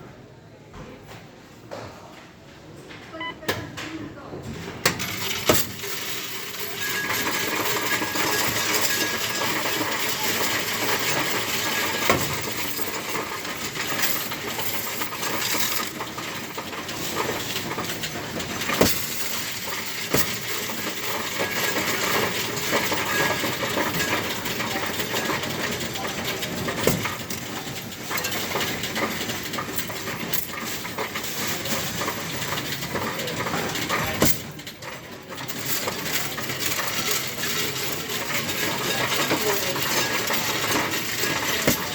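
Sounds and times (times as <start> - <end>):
coin-counting machine rattling: 4.9 - 41.9.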